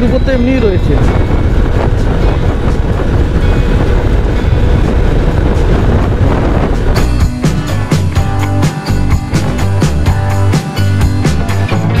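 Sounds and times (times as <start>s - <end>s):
wind rushing on microphone: 0.0s - 11.2s
motorcycle engine running: 1.0s - 11.4s.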